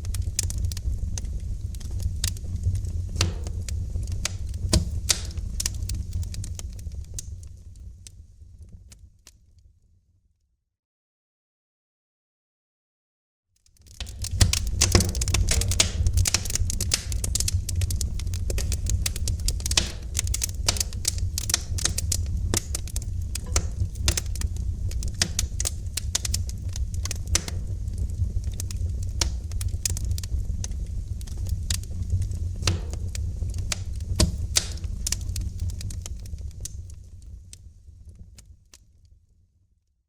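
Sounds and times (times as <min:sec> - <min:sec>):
wood fire crackling and popping: 0:00.0 - 0:09.4, 0:13.6 - 0:38.8.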